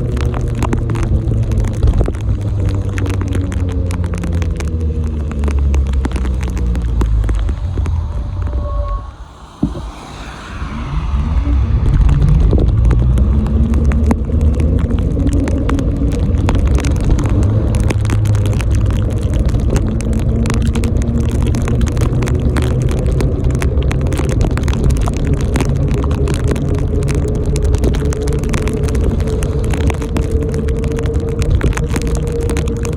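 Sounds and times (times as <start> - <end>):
bicycle riding rumble: 0.0 - 32.9.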